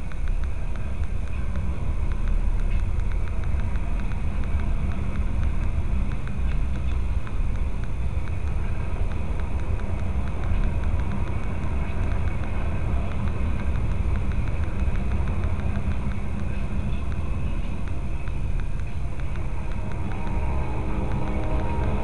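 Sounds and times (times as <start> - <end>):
freight train rumble: 0.0 - 22.0.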